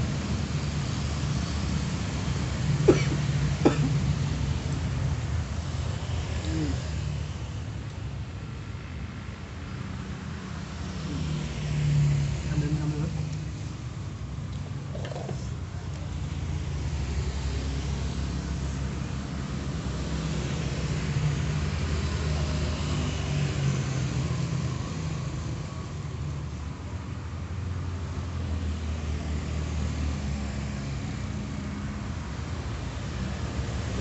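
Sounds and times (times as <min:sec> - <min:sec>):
vehicle engines rumbling: 0:00.0 - 0:34.0.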